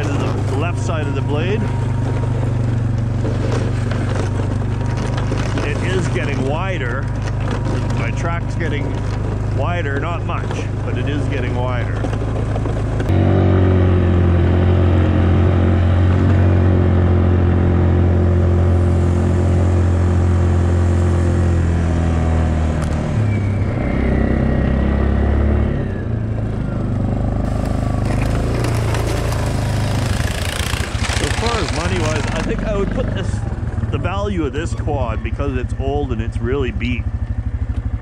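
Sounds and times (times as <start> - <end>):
atv engine running under load: 0.0 - 38.0.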